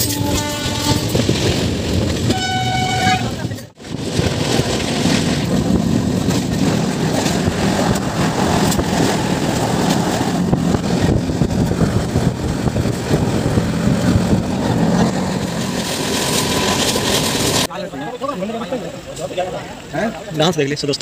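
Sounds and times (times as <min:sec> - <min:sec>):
train wheels rumbling on rails: 0:00.0 - 0:17.7.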